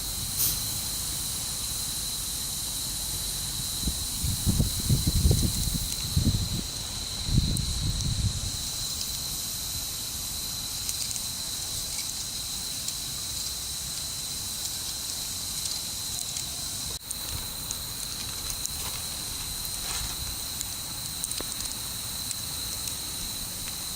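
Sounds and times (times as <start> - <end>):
campfire hissing and crackling: 0.0 - 23.9
thin high whine: 0.0 - 23.9.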